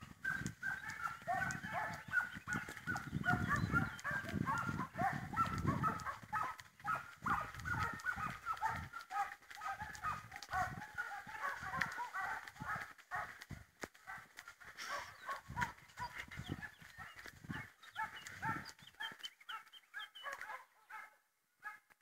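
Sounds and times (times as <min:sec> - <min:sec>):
hounds baying: 0:00.0 - 0:21.8.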